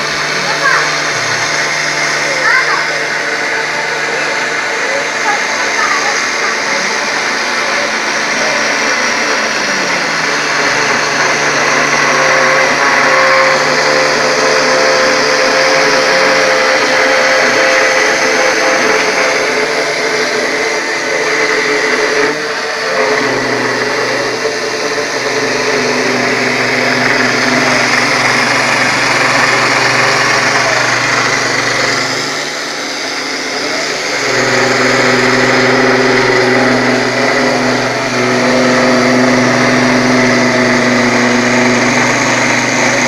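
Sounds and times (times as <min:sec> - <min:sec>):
spindle running: 0:00.0 - 0:43.0
stepped whine of tones: 0:00.0 - 0:43.0.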